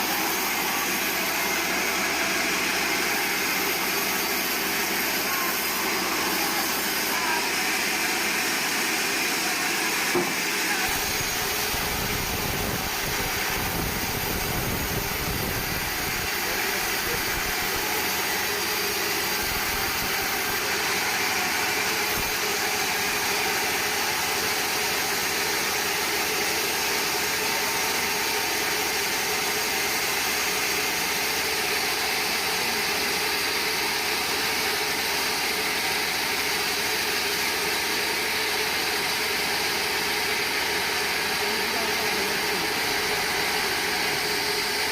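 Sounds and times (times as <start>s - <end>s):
band sawmill running: 0.0s - 44.9s.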